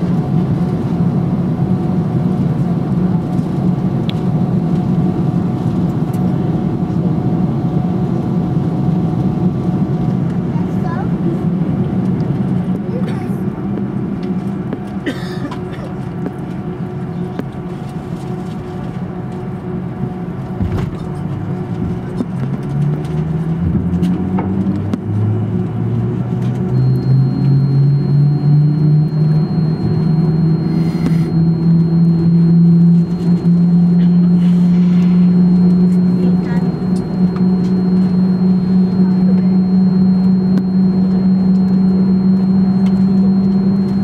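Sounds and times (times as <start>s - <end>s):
high steady whine: 0.0s - 44.0s
jet engines from inside cabin: 0.0s - 44.0s.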